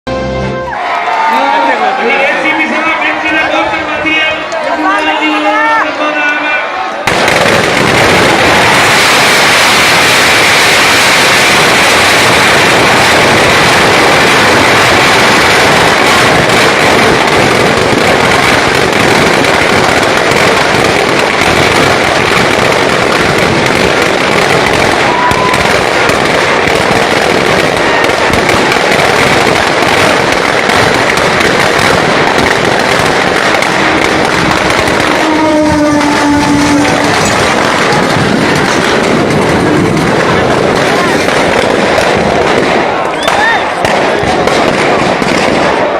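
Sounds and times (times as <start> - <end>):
firecrackers crackling: 0.8 - 45.9.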